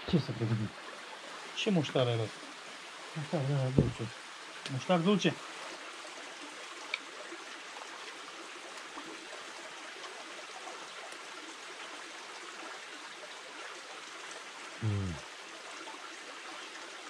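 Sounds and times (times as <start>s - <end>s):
stream running: 0.0s - 17.0s.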